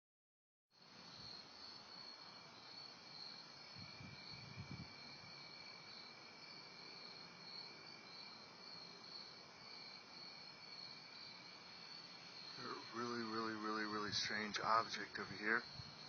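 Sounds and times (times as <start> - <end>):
night insects trilling: 0.8 - 16.0.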